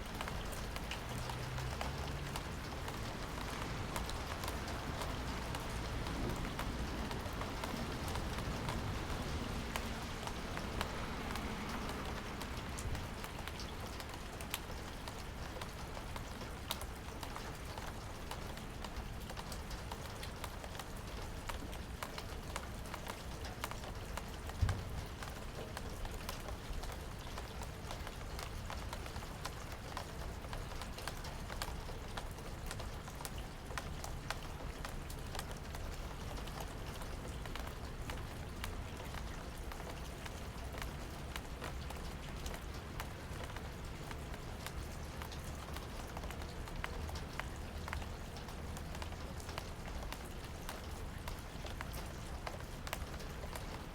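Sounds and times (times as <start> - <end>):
rain drops ticking: 0.0 - 53.9.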